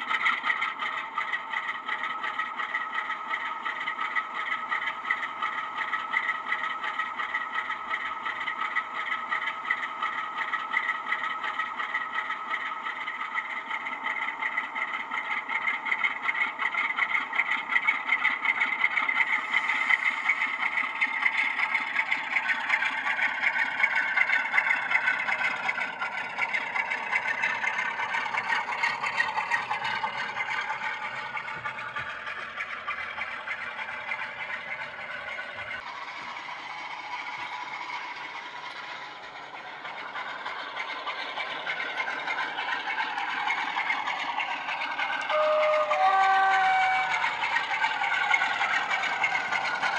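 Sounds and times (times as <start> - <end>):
diesel engine through small speakers: 0.0 - 49.9.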